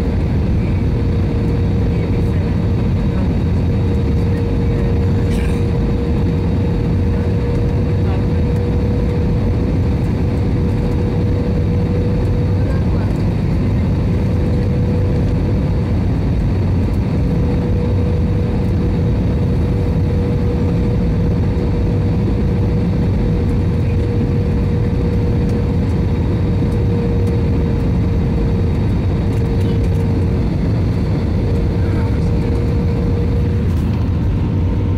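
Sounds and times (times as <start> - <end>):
jet airliner cabin drone: 0.0 - 34.9.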